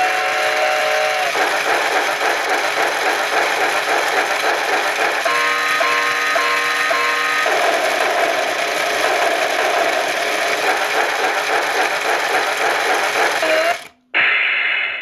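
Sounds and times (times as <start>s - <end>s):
toy train alarm hiss and rattle: 0.0s - 13.9s.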